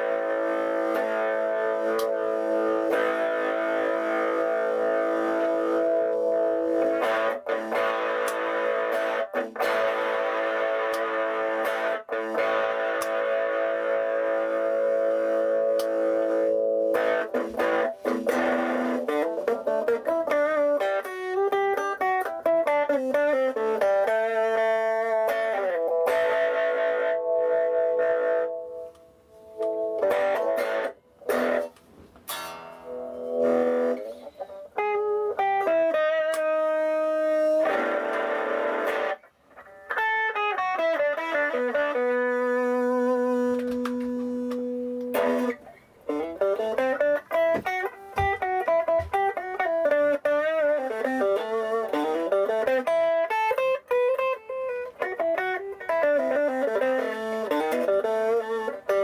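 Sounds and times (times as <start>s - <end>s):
electric guitar through amp: 0.0s - 59.0s.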